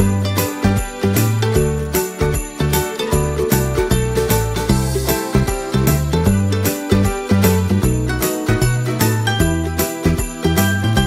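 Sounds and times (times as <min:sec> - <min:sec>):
background music with steady beat: 0:00.0 - 0:11.0
bass line: 0:00.0 - 0:11.0
bell-like jingles: 0:00.0 - 0:11.0.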